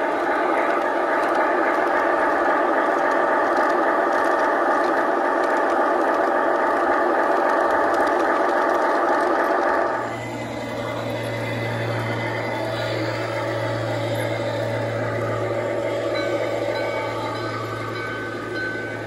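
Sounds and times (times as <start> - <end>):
model locomotive whining and rattling: 0.0 - 19.0.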